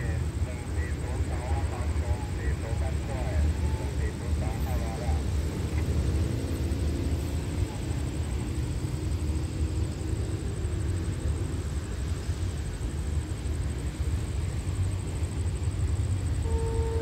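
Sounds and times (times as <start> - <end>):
distant train rumble approaching: 0.0 - 17.0.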